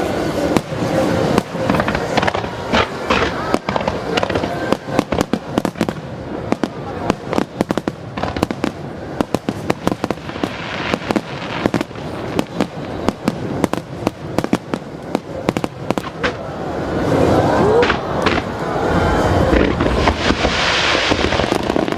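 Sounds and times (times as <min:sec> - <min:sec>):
fireworks bangs and crackles: 0:00.0 - 0:21.9
steady rumble: 0:00.0 - 0:21.9.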